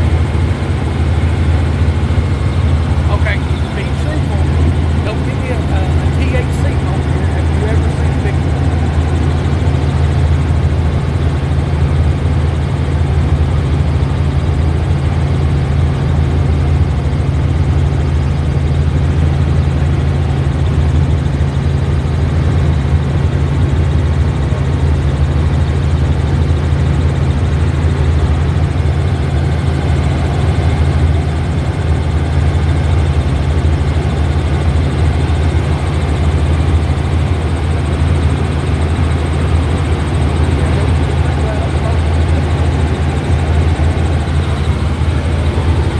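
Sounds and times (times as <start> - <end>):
helicopter engine and rotor: 0.0 - 45.9.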